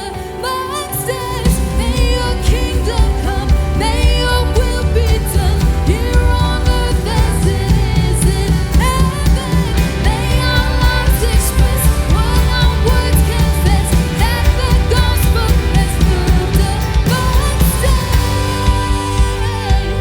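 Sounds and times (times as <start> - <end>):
person singing: 0.0 - 20.0
worship band music: 0.0 - 20.0.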